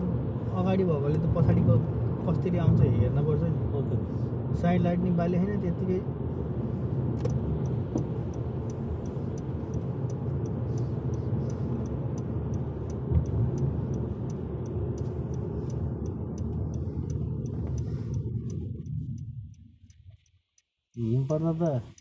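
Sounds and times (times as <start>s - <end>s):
turn signal ticking: 0.0s - 3.5s, 4.5s - 22.0s.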